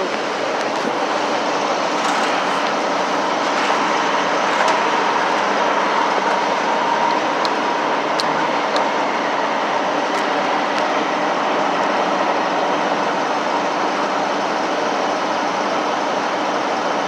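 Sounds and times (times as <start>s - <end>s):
fuel rushing through pump nozzle: 0.0s - 16.8s.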